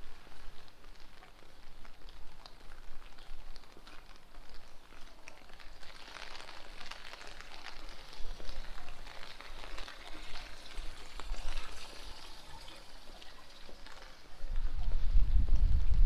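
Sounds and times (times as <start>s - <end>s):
rain falling on street: 0.0s - 15.0s.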